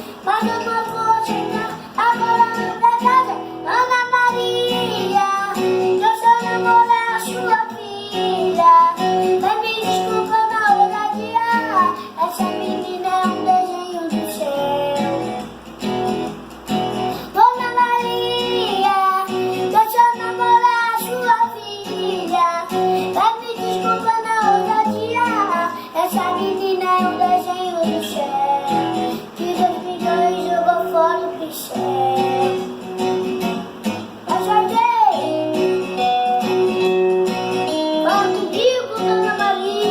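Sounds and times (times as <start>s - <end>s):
child singing: 0.0s - 15.3s, 17.3s - 32.8s, 34.2s - 35.6s, 37.7s - 39.9s
backing track with guitar: 0.0s - 39.9s.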